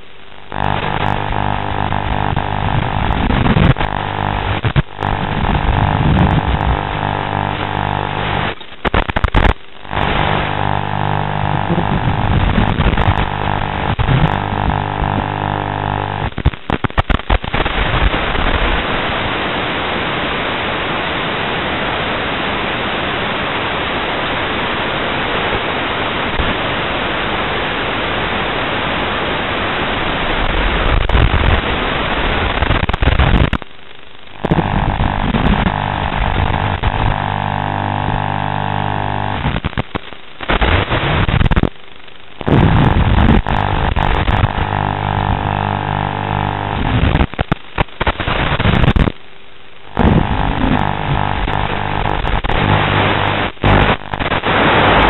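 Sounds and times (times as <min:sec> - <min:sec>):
static hiss: 0:00.0 - 0:55.0.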